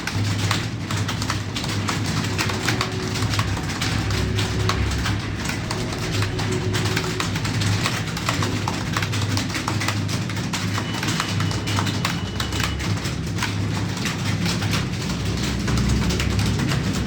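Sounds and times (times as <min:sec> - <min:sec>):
keyboard typing clicks: 0:00.0 - 0:17.0.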